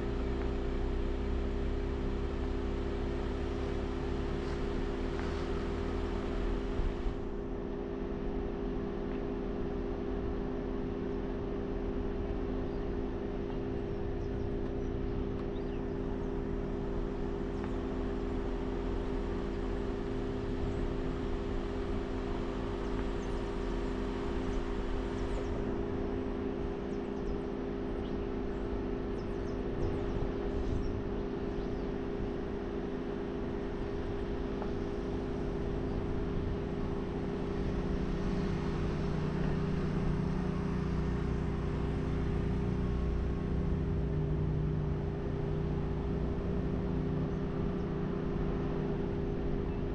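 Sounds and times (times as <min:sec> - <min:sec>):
vehicle engine hum: 0:00.0 - 0:49.9.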